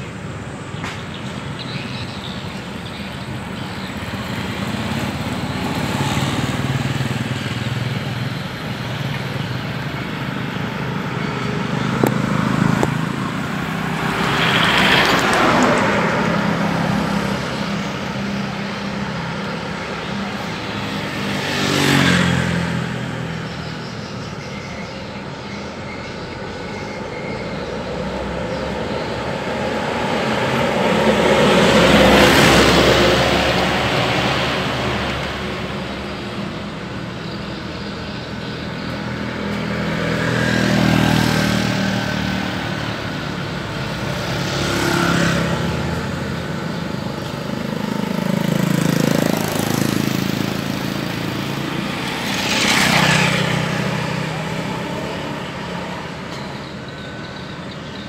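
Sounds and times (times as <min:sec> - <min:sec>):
vehicles passing close: 0:00.0 - 0:58.0.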